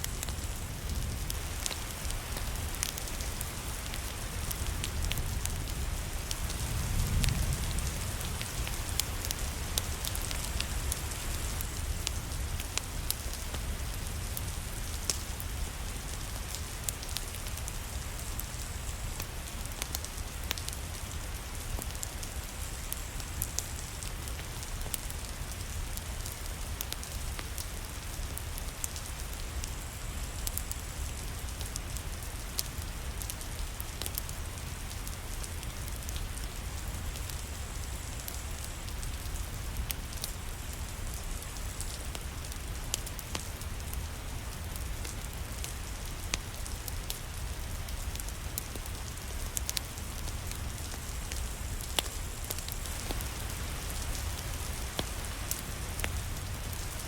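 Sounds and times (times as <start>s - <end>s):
steady rain falling: 0.0s - 57.0s
wood fire crackling and popping: 0.0s - 57.0s.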